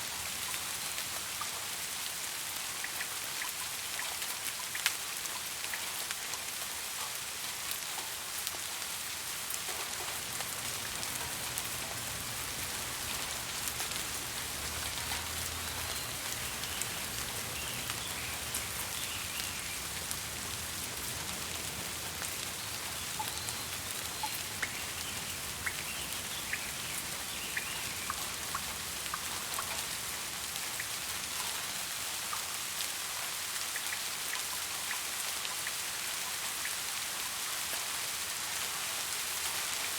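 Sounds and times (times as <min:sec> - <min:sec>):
steady rain hiss: 0:00.0 - 0:39.9
raindrops pattering: 0:00.1 - 0:37.0.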